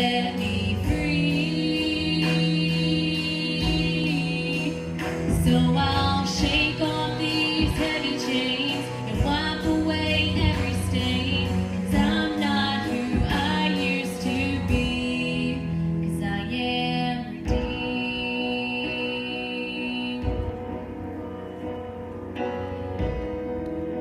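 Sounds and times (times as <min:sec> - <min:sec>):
woman singing: 0:00.0 - 0:21.0
instrumental accompaniment: 0:00.0 - 0:24.0.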